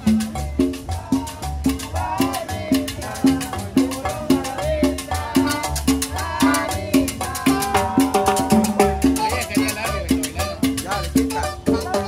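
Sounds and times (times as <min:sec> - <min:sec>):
latin dance music live band: 0:00.0 - 0:12.0.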